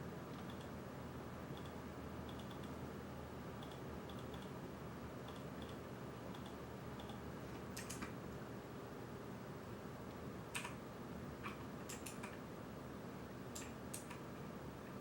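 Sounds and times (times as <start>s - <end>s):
graphics card fans whirring: 0.0s - 15.0s.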